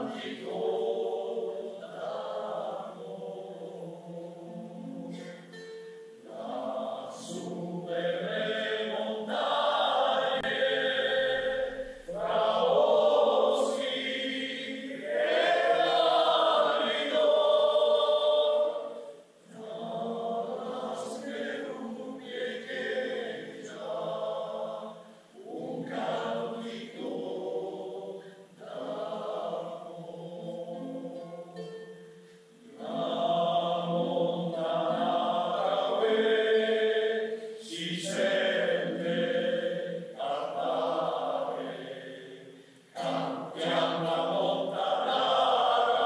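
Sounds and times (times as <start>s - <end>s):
choir singing: 0.0s - 31.9s, 32.6s - 46.0s.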